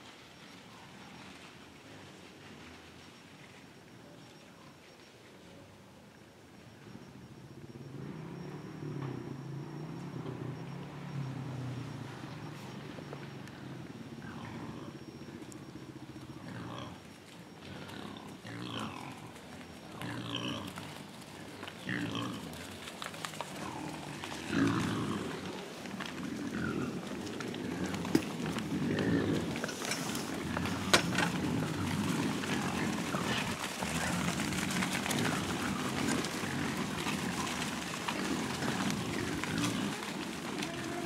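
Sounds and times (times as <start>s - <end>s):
hogs grunting: 7.0s - 41.0s.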